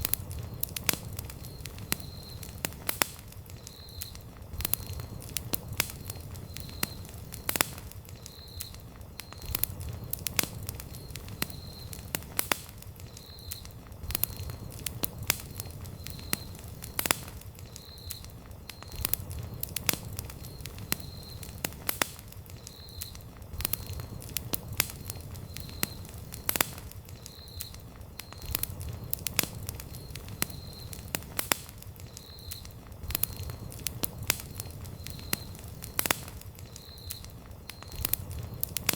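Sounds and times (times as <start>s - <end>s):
campfire crackling: 0.0s - 38.9s
low rumble of flame: 0.0s - 38.9s.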